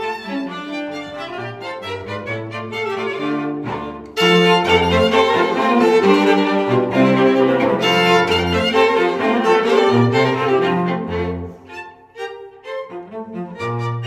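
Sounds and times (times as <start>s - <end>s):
violin and cello music: 0.0s - 14.0s.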